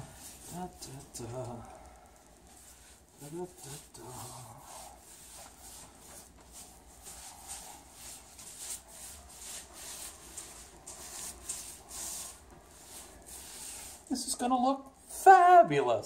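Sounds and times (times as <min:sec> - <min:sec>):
paintbrush swishing on wall: 0:00.0 - 0:14.6.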